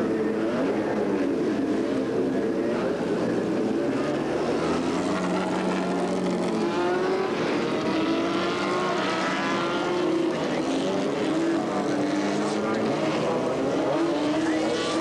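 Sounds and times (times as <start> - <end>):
race car engine revving: 0.0 - 15.0
race car engine steady note: 0.0 - 15.0.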